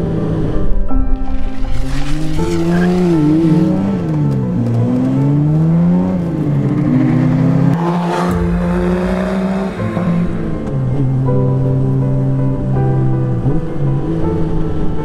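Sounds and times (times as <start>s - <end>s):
car engine revving: 1.3s - 15.0s.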